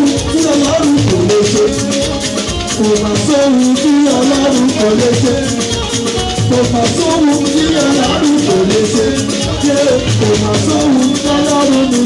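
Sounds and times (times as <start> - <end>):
loud percussive music: 0.0 - 12.0.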